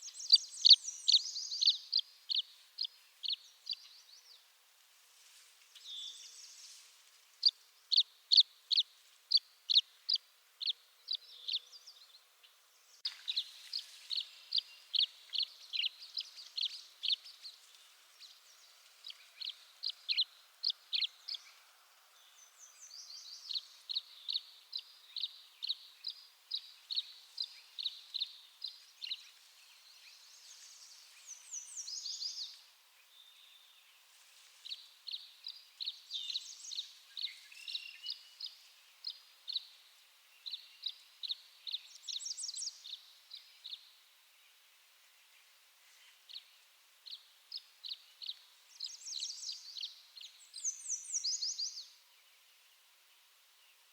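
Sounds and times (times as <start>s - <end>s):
bird chirping: 0.0s - 4.5s, 5.7s - 53.9s.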